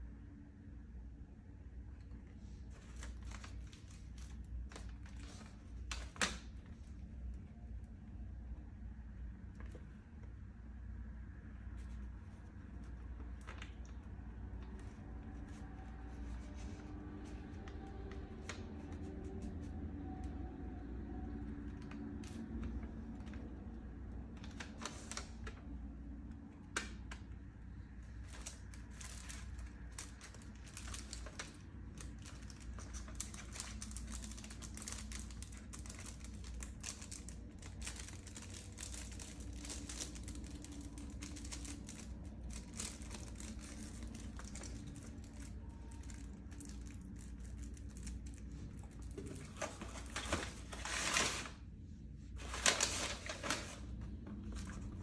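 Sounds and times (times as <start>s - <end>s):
cellophane crinkling: 2.0s - 7.6s, 11.8s - 25.7s, 26.6s - 51.6s, 52.4s - 55.0s.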